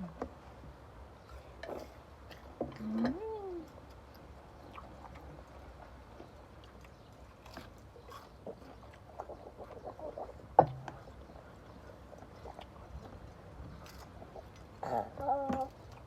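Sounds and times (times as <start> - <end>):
people chewing crunchy food: 1.2 - 16.0.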